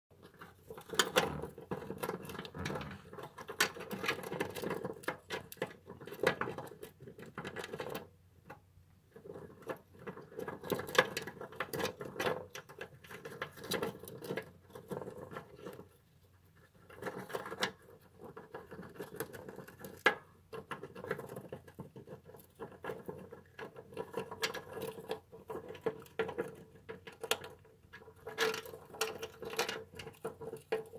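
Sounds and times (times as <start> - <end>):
hamster gnawing peanut shell: 0.1 - 30.9.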